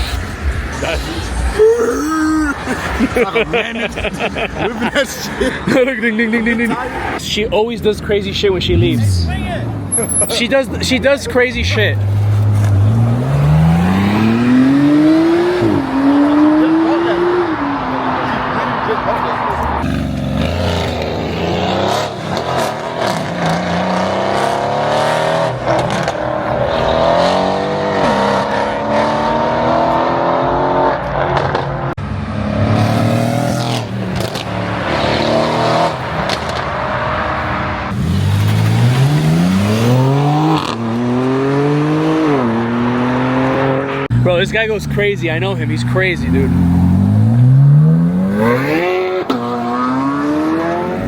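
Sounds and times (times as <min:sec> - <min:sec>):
car engines revving and accelerating: 0:00.0 - 0:01.7, 0:02.3 - 0:51.0.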